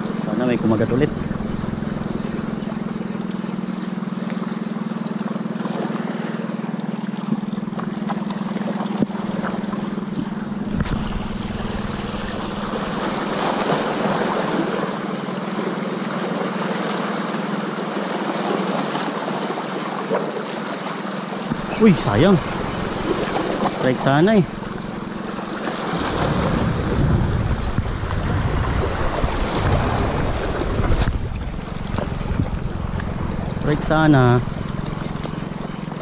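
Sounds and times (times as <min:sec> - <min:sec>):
steady low hum: 0:00.0 - 0:17.9, 0:21.1 - 0:36.0
small waves lapping on rocks: 0:00.0 - 0:36.0.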